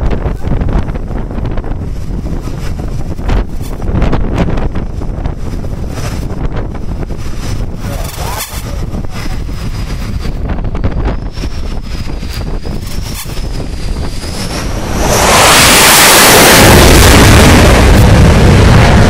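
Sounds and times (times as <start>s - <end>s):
distant jet aircraft rushing: 0.0s - 19.0s
high jet engine whine: 0.0s - 19.0s
wind buffeting microphone: 0.0s - 19.0s.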